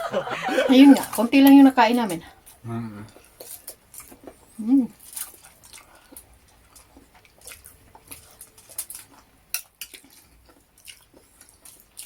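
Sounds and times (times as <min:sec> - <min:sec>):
chewing crunchy food: 0:00.9 - 0:12.0.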